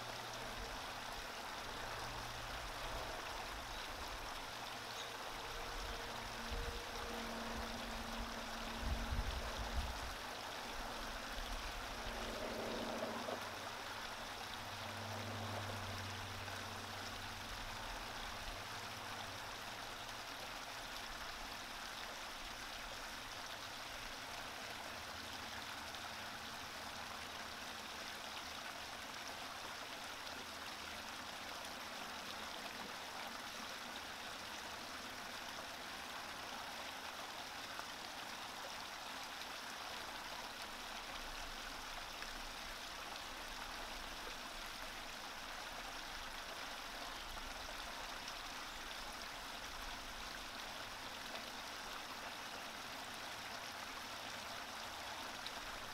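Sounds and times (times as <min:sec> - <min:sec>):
creek flowing over stones: 0:00.0 - 0:55.9.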